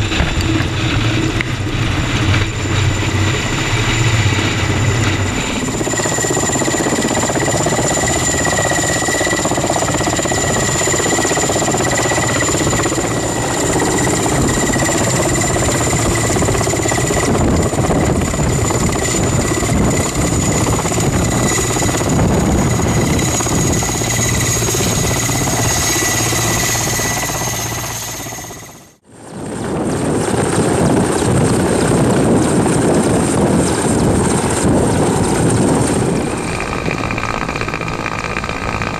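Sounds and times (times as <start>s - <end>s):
helicopter rotor rumble: 0.0s - 38.9s
high turbine whine: 0.0s - 38.9s.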